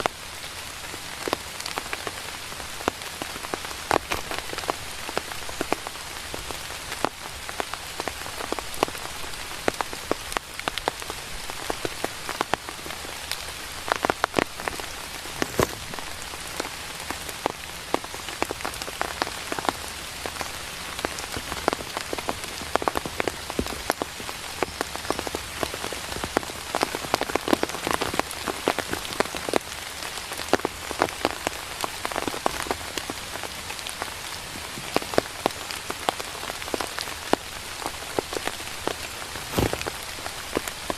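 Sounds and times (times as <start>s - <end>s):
raindrops tapping on surfaces: 0.0s - 40.9s
steady rain falling: 0.0s - 40.9s.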